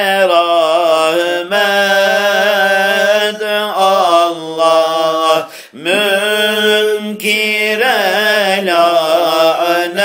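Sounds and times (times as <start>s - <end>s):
person singing melismatic hymn: 0.0s - 10.0s.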